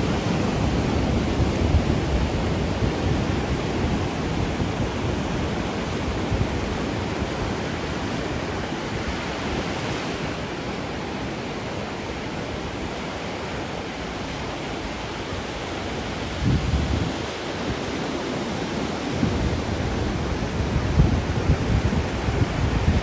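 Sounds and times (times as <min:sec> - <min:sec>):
sea waves on shore: 0:00.0 - 0:23.0.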